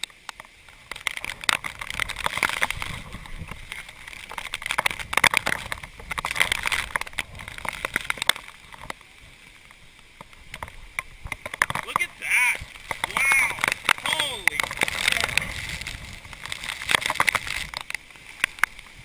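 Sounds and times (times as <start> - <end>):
wind gusting across microphone: 0.6 - 9.7, 10.3 - 19.0.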